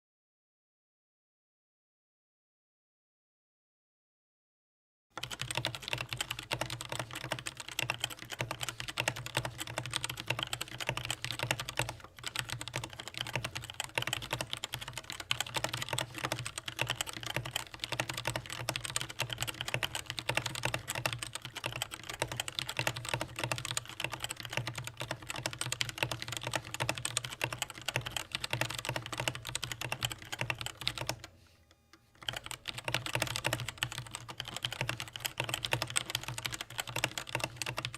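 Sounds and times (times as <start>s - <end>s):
mechanical keyboard typing: 5.2s - 31.3s, 32.1s - 37.9s.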